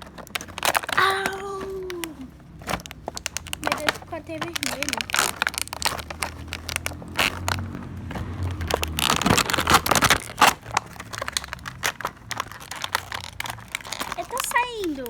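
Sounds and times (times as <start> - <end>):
plastic packaging crackling: 0.0 - 15.0.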